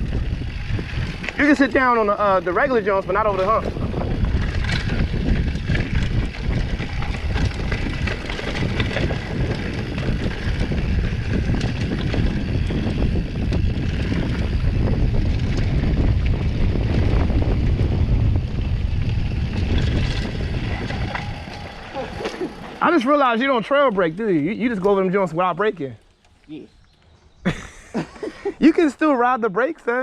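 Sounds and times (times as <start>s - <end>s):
bike clicking and rattling: 0.0s - 29.1s
wind buffeting microphone: 0.0s - 29.1s
tyres rumbling on dirt trail: 0.0s - 30.0s.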